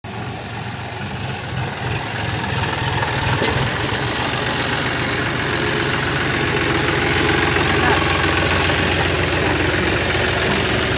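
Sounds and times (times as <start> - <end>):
large diesel engine running: 0.0 - 10.9.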